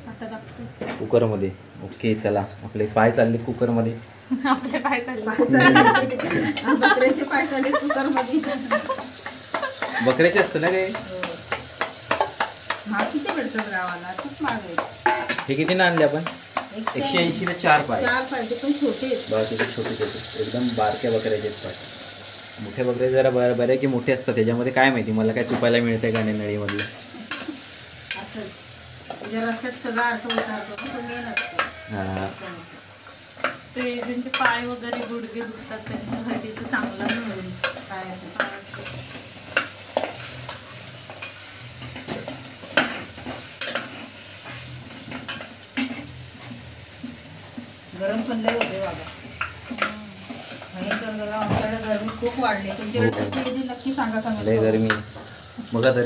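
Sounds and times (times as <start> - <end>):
food sizzling in a pot: 0.0 - 56.0
metal utensils clinking on pots: 5.5 - 21.8, 24.7 - 28.4, 29.0 - 46.2, 47.0 - 56.0.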